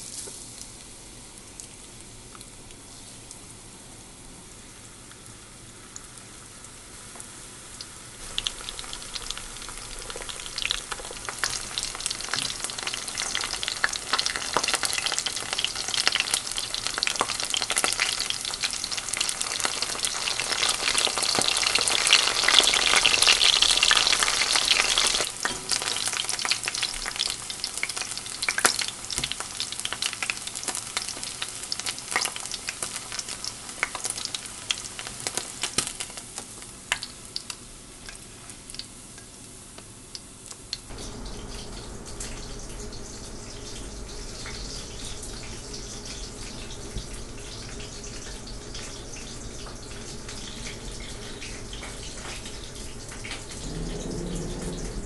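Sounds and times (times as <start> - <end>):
meat sizzling in oil: 4.5 - 55.0.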